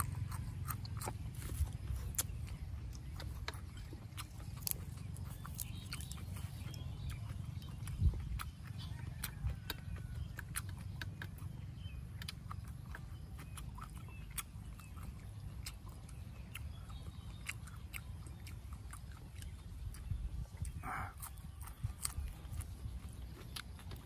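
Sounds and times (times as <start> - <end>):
person chewing: 0.0 - 24.0.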